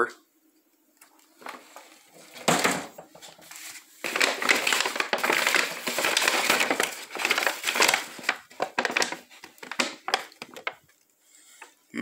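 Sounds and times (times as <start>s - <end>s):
rustling and crinkling handling noise: 1.0s - 11.8s.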